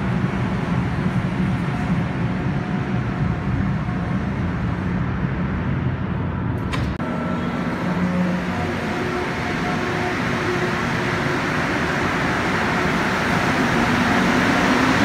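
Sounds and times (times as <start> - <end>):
metro train rumbling: 0.0 - 15.0
train whining tones: 0.0 - 15.0.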